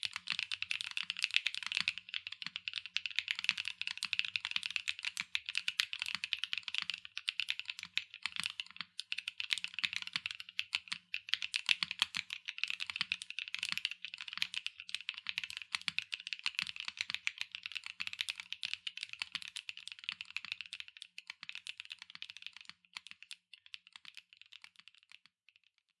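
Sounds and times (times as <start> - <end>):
mechanical keyboard typing: 0.0 - 25.1.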